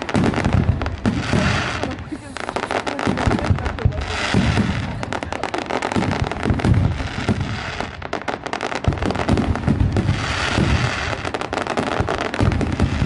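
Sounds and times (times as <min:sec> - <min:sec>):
firework shells booming: 0:00.0 - 0:13.0
fireworks crackling: 0:00.0 - 0:13.0.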